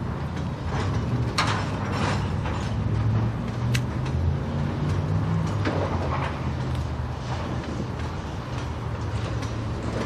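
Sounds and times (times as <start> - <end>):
freight train rumbling past: 0.0 - 10.0
metallic clicks and creaks: 0.0 - 10.0.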